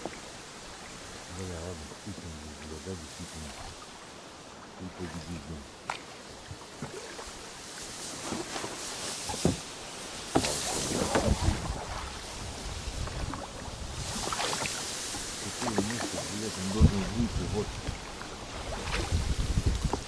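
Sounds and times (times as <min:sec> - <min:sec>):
water splashing around boat: 0:00.0 - 0:20.0.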